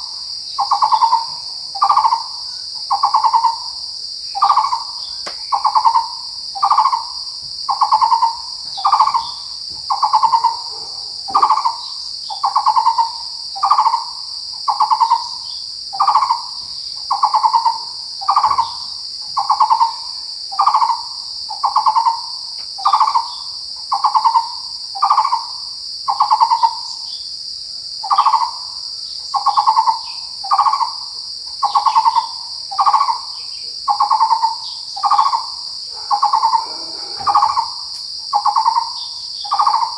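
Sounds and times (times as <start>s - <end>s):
high insect buzz: 0.0s - 27.4s, 28.0s - 39.9s.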